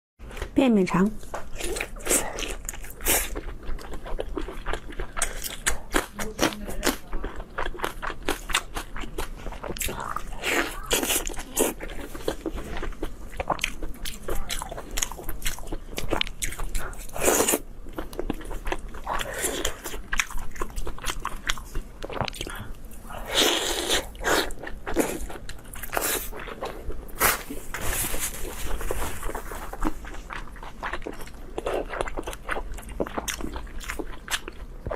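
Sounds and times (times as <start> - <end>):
person chewing food: 1.2 - 34.9.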